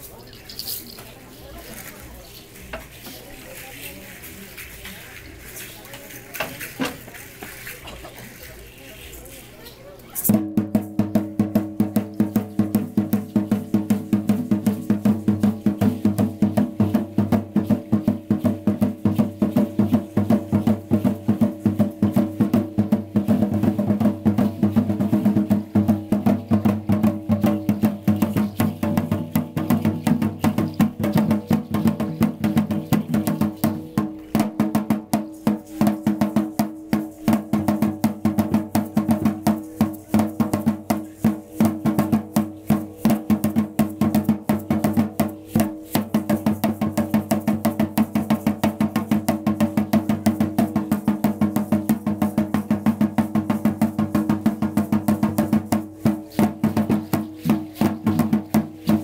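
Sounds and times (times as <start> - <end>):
drum beating fast rhythm: 10.2 - 59.0.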